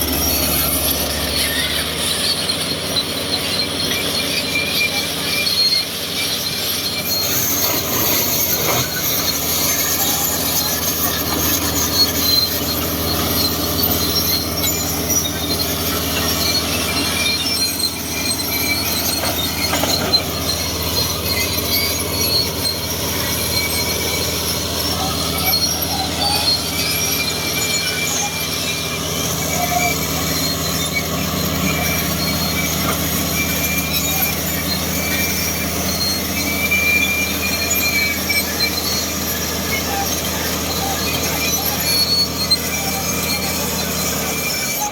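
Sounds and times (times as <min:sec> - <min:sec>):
bulldozer diesel engine running: 0:00.0 - 0:44.9
steel tracks squealing and clanking: 0:00.0 - 0:44.9.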